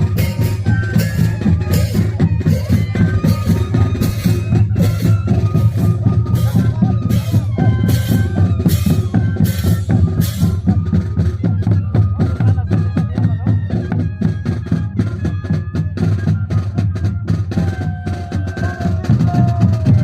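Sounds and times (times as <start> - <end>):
steady drum beat: 0.0 - 20.0
wooden flutes playing melody: 0.0 - 20.0.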